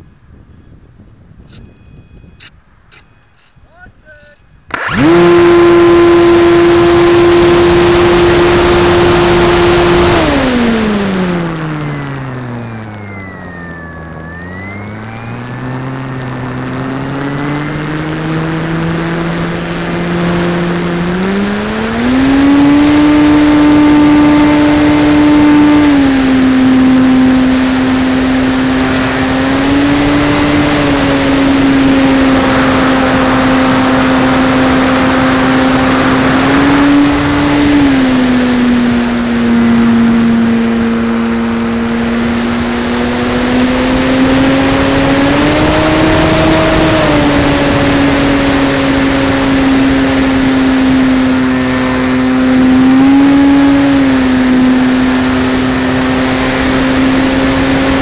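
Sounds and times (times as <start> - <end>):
model airplane motor drone: 4.1 - 58.0.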